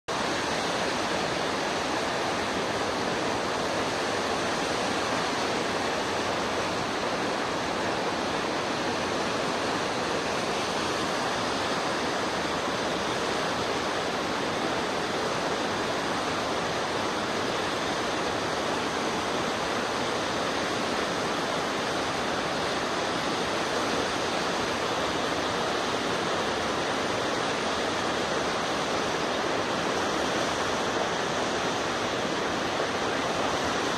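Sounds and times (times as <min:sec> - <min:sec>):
steady rushing noise: 0:00.1 - 0:33.9.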